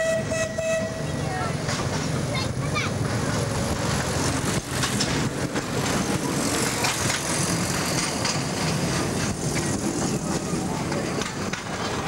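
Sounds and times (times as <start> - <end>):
small train engine humming: 0.0 - 12.0
train clicks and clatter: 1.1 - 12.0.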